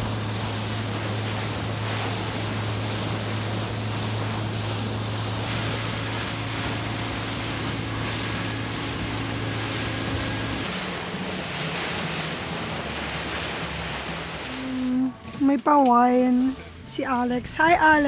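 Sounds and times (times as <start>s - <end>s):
motorboat engine droning: 0.0s - 18.0s
water rushing past hull: 0.0s - 18.0s.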